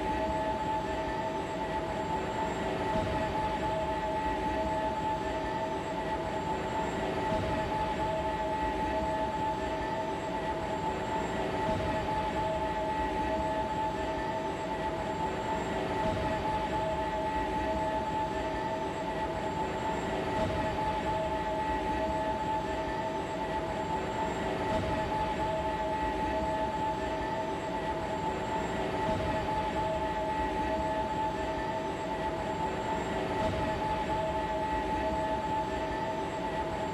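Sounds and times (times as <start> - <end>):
industrial machinery drone: 0.0 - 36.9.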